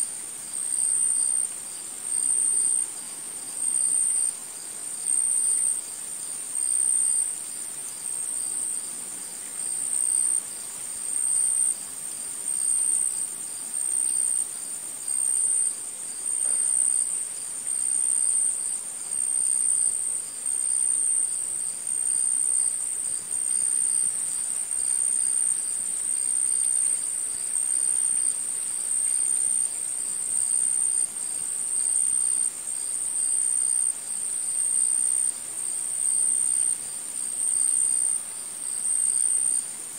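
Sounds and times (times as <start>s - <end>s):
insect chirping trill: 0.0s - 39.9s.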